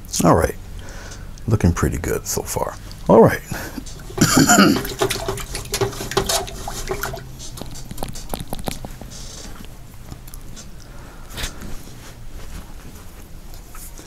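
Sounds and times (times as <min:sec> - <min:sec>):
soft wet squishing: 0:02.7 - 0:14.0.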